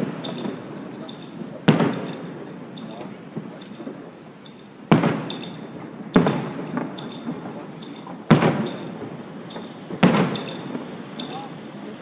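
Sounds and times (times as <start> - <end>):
firework bangs with echo: 0.0 - 12.0.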